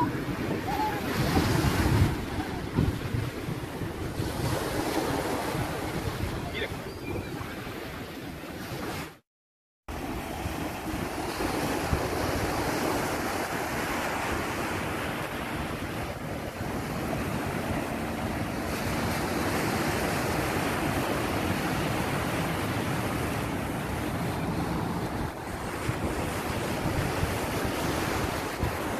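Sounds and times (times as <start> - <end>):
wind buffeting microphone: 0.0 - 9.0, 10.2 - 28.9
ocean surf breaking on beach: 0.0 - 9.2, 9.9 - 28.9.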